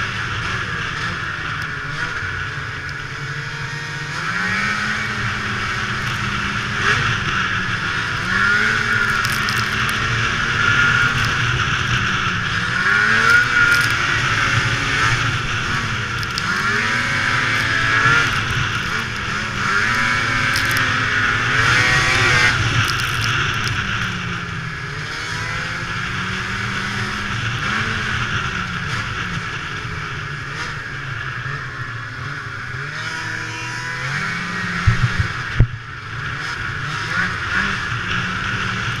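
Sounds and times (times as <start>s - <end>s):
snowmobile engine revving: 0.0s - 39.0s
track and wind noise: 0.0s - 39.0s.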